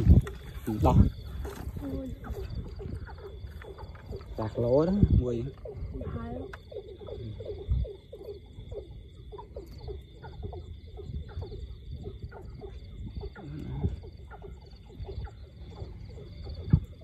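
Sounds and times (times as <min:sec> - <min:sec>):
frogs croaking: 0:00.0 - 0:17.0
night insects trilling: 0:00.0 - 0:17.0.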